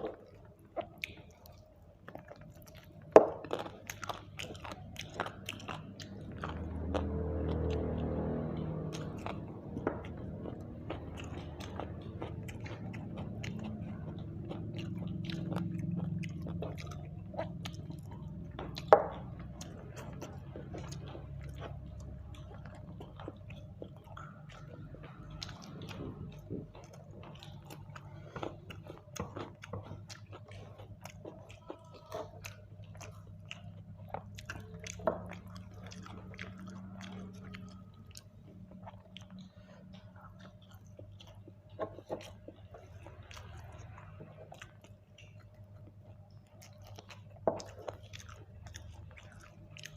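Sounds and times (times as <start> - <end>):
person chewing and biting: 0.0 - 49.9.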